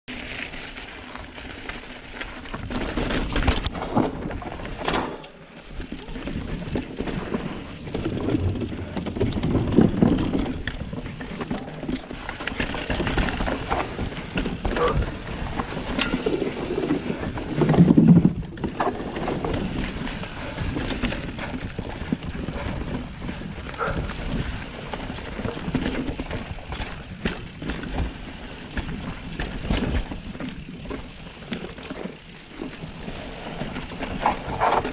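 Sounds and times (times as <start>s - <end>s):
bike tyres on dirt and rock: 0.1s - 34.9s
bike rattling and knocking: 0.2s - 34.9s.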